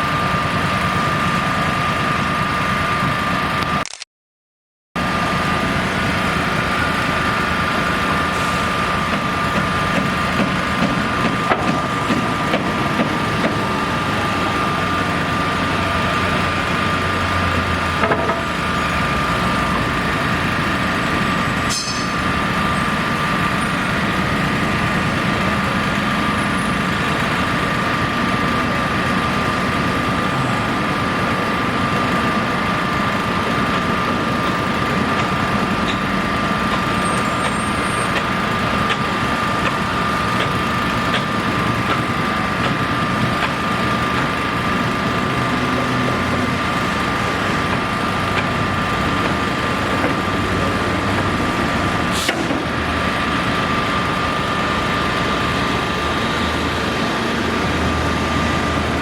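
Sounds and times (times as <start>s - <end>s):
heavy engine idling: 0.0s - 3.8s, 5.0s - 59.0s.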